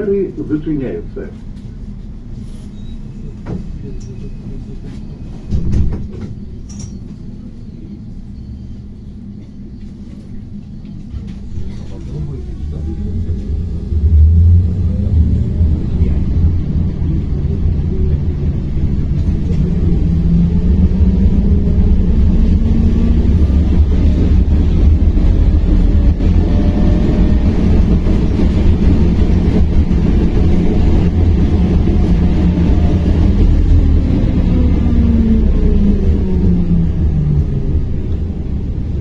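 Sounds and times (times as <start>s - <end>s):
vehicle running rumble: 0.0s - 39.0s.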